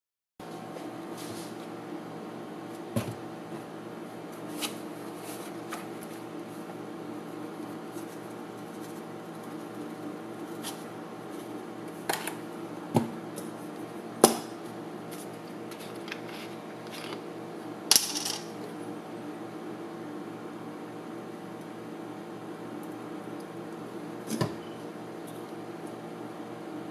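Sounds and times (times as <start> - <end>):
mechanical hum: 0.4 - 26.9.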